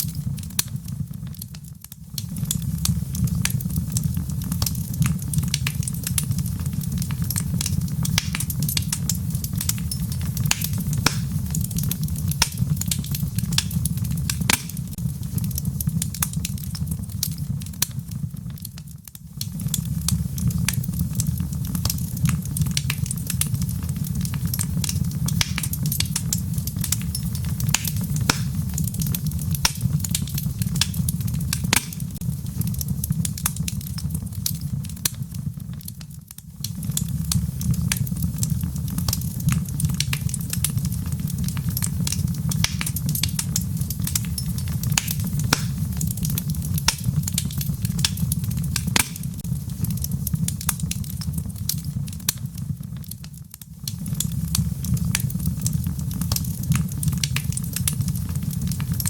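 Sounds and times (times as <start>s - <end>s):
patter of rain: 0.0s - 59.0s
wood fire crackling: 0.0s - 59.0s.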